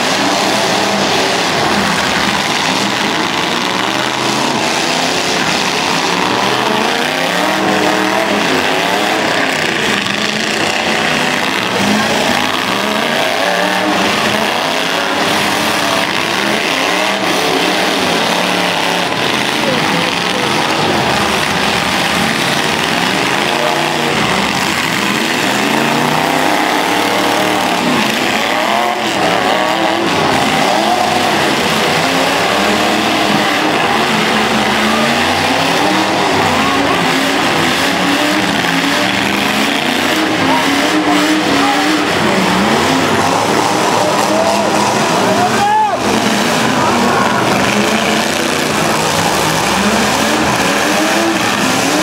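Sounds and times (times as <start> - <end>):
truck engines revving: 0.0 - 52.0.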